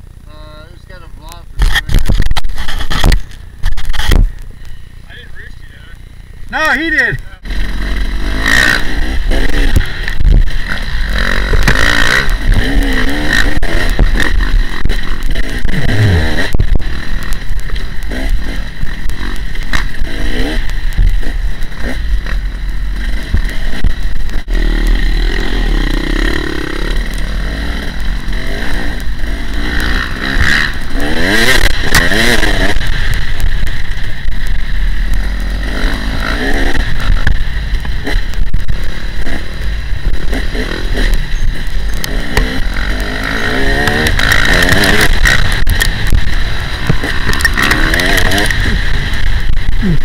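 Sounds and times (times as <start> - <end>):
dirt bike engine revving: 0.0 - 50.0
wind rumble on microphone: 1.5 - 4.5, 7.4 - 50.0.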